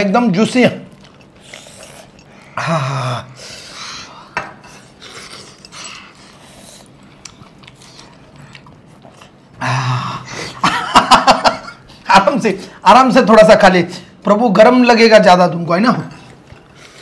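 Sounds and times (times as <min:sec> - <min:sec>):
people chewing and eating: 0:00.0 - 0:12.8, 0:15.6 - 0:17.0.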